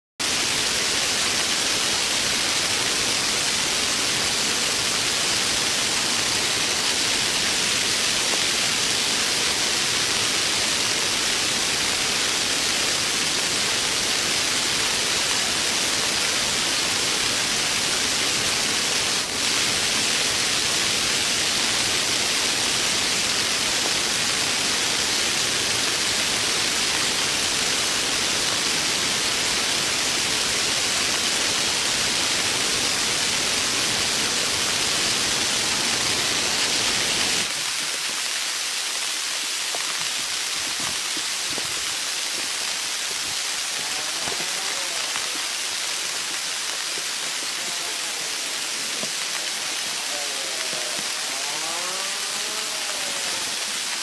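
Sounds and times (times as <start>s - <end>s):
heavy rain falling: 0.2s - 54.0s.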